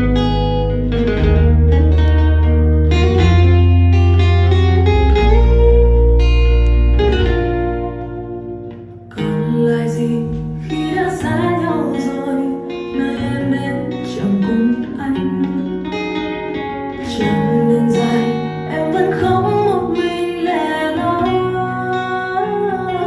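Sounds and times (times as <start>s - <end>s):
acoustic guitar song: 0.0s - 23.0s.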